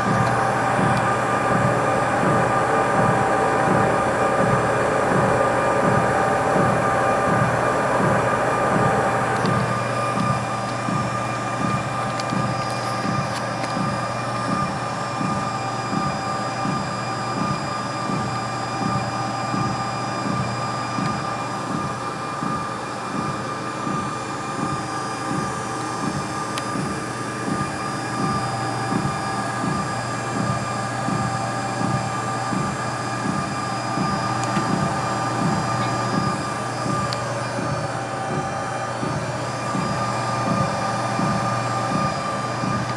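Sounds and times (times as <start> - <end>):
treadmill motor hum and whine: 0.0 - 42.9.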